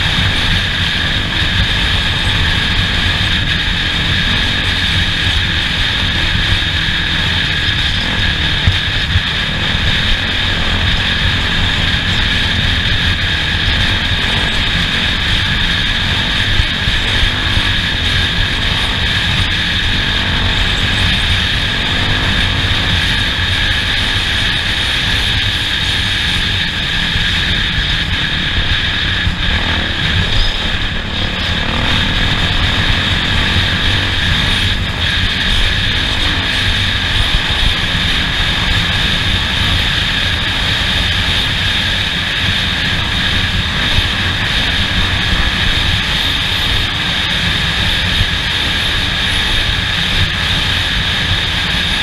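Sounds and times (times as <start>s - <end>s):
race vehicle engine running: 0.0s - 52.0s.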